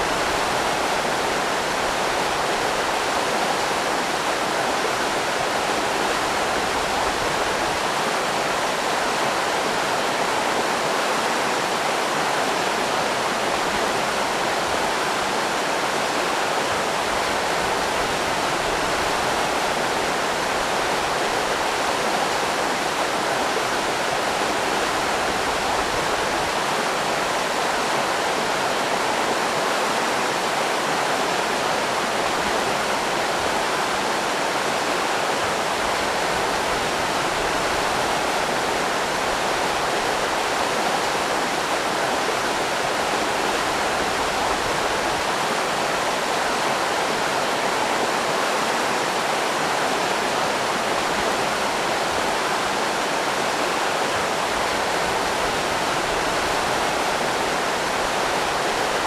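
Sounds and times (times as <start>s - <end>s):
river rapids rushing: 0.0s - 59.0s.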